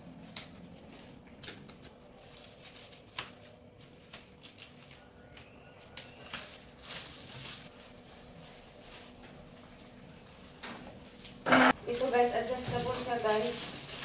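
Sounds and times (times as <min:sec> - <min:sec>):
plastic wrap rustling: 0:00.0 - 0:14.0.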